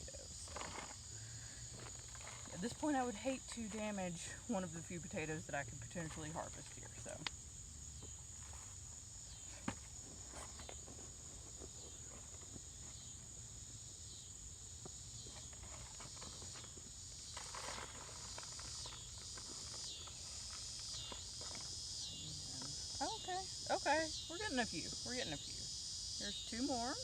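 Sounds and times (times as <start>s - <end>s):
high-pitched insect chorus: 0.0s - 27.0s
pulsing insect call: 0.0s - 27.0s.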